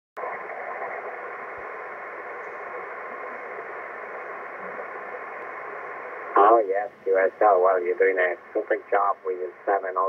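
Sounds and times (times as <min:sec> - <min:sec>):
radio static hiss: 0:00.2 - 0:10.0.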